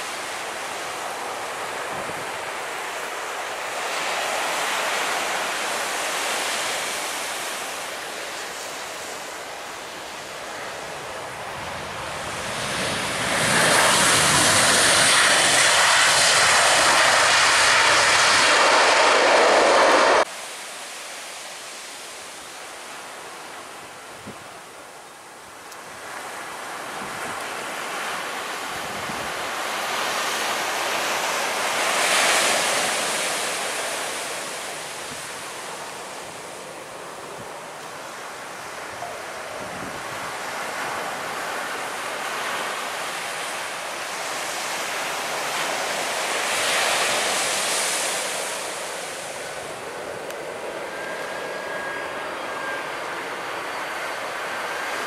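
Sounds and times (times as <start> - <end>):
jet on approach: 0.0 - 20.4, 25.8 - 55.0
jet engines under reverse thrust: 0.1 - 20.3, 25.7 - 55.0.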